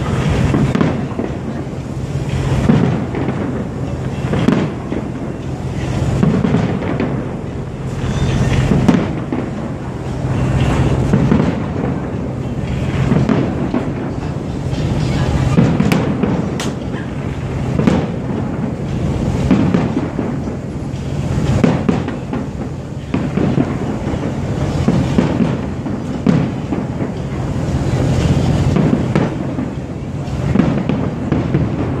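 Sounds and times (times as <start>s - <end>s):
firework shells bursting: 0.0s - 32.0s
steady low rumble: 0.0s - 32.0s.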